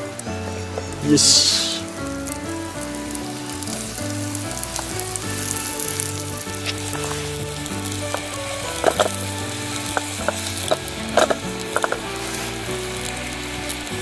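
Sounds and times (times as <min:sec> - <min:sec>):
bread sizzling in frying pan: 0:00.0 - 0:14.0.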